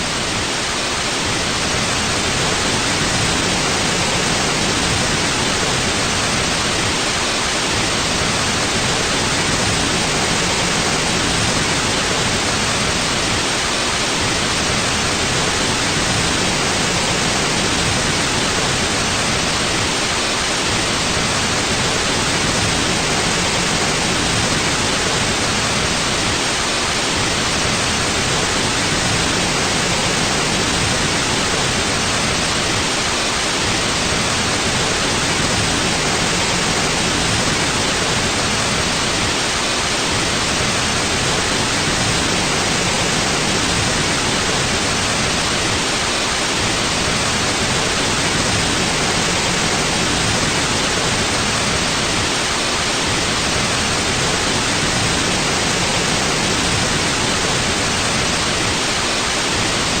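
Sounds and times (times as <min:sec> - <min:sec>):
steady white noise hiss: 0:00.0 - 1:00.0.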